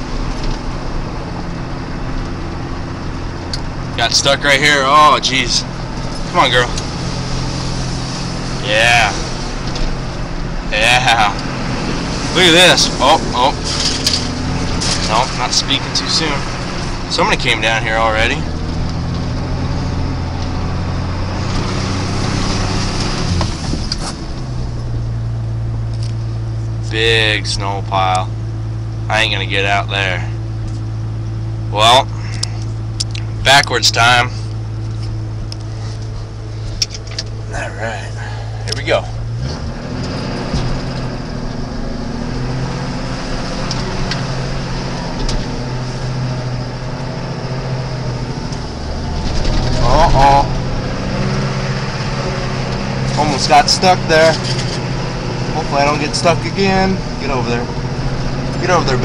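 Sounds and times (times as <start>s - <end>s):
pickup truck engine running: 0.0s - 59.0s
road and tyre noise: 0.0s - 59.0s.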